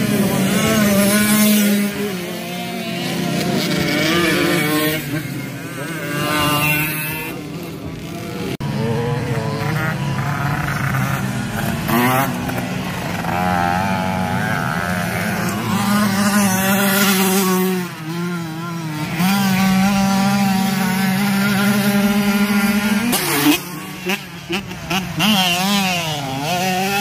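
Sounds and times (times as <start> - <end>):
racing motorcycle engines revving: 0.0 - 27.0.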